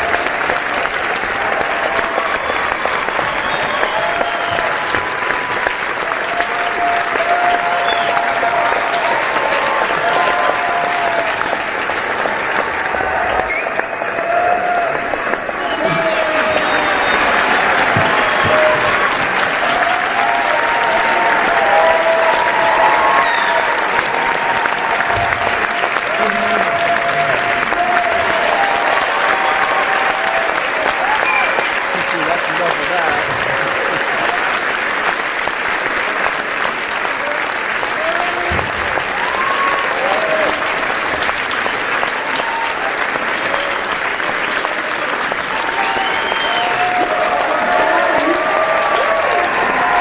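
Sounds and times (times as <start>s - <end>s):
crowd applauding: 0.0s - 50.0s.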